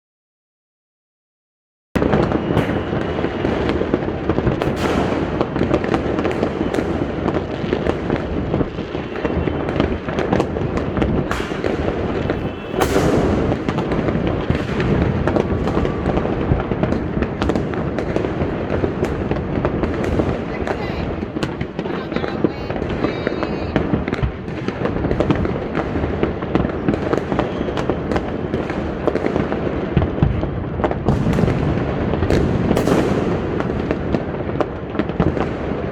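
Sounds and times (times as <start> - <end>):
fireworks crackling and banging: 2.0 - 35.9.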